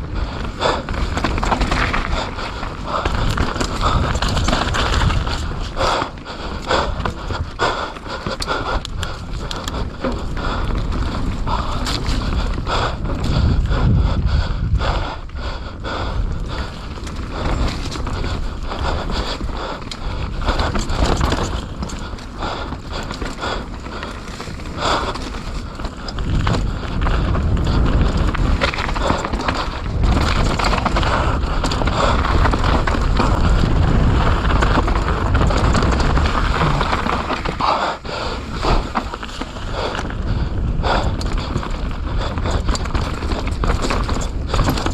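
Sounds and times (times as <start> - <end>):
bike clicks and clatters: 0.0 - 44.9
wind and tyre noise: 0.0 - 44.9.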